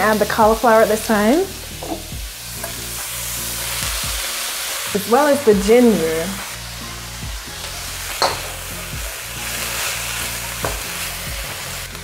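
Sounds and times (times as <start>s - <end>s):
background music: 0.0s - 12.0s
vegetables sizzling in a wok: 0.0s - 12.0s.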